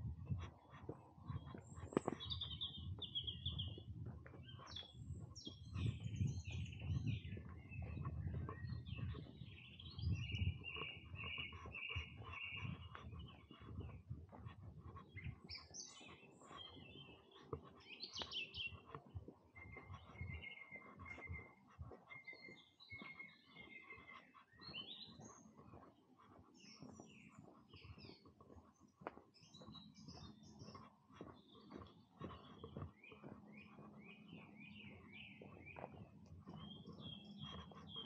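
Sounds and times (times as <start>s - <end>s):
footsteps on a path: 0.0s - 38.0s
songbirds singing: 0.0s - 38.0s.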